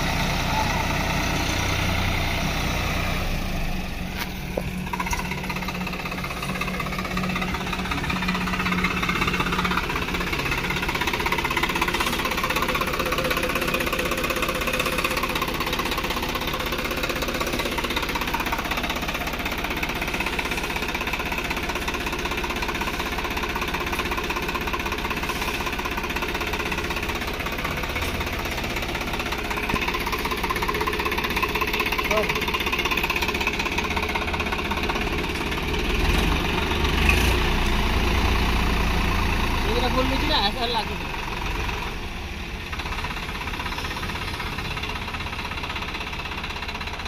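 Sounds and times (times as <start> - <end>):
tractor diesel engine clatter: 0.0 - 47.0.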